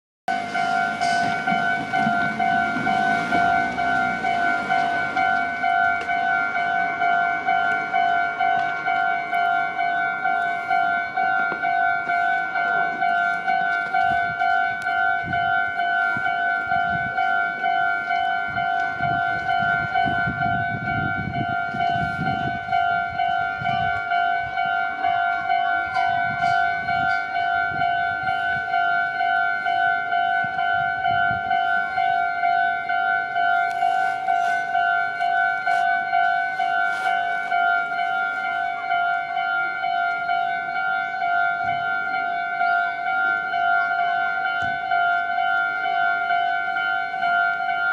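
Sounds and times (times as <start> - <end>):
level crossing electronic bell: 0.3 - 47.9.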